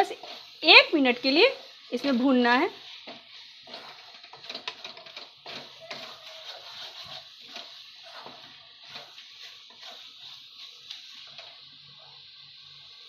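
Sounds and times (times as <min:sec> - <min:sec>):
wooden spatula scraping a pan: 0:00.0 - 0:12.3
onions sizzling in a pan: 0:00.0 - 0:13.0.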